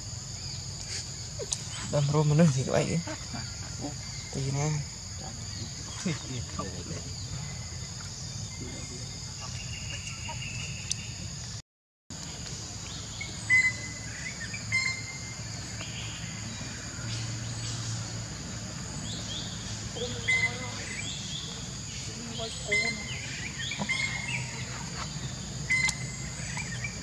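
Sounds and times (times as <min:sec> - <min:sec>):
high insect drone: 0:00.0 - 0:11.6, 0:12.2 - 0:27.0.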